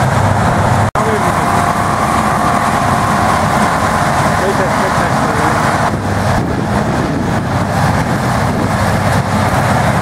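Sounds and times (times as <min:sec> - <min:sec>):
heavy machinery engine droning: 0:00.0 - 0:10.0.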